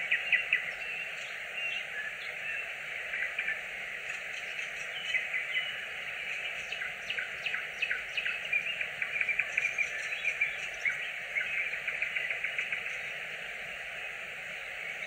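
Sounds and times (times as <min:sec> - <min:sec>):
background hiss: 0:00.0 - 0:15.0
nightingale singing: 0:00.0 - 0:15.0.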